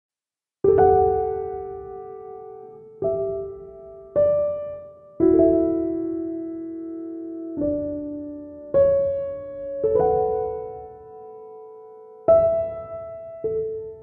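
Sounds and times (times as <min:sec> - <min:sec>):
slow piano chords: 0:00.6 - 0:14.0.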